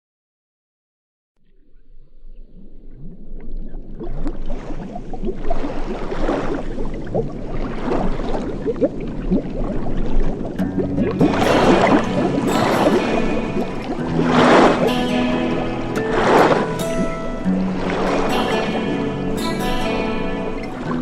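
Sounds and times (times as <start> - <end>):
gurgling bubbling pitch glides: 2.7 - 21.0.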